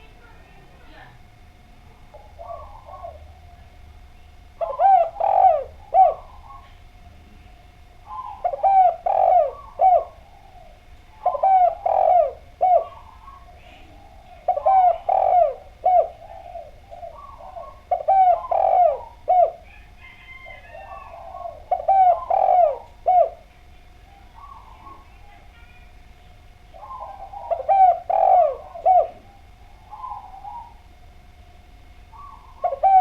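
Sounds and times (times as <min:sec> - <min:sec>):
dove cooing: 0:00.0 - 0:33.0.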